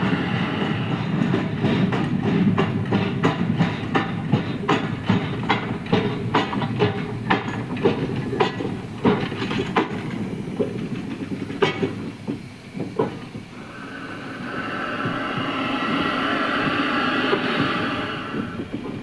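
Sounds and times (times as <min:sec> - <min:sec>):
steady higher train noise: 0:00.0 - 0:19.0
train wheels clacking over rail joints: 0:00.0 - 0:19.0.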